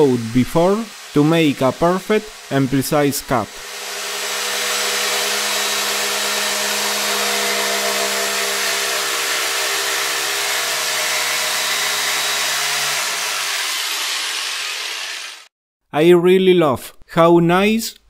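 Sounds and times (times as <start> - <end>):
jigsaw cutting wood: 0.0 - 15.5.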